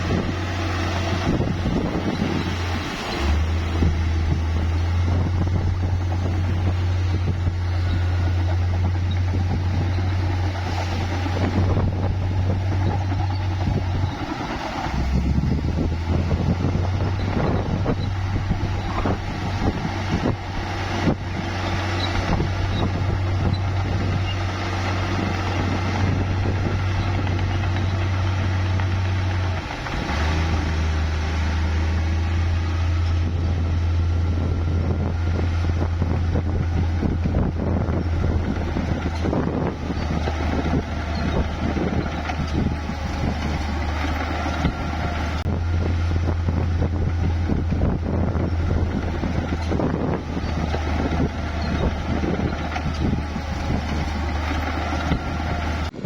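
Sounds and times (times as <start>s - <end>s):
bulldozer diesel engine rattling: 0.0s - 56.0s.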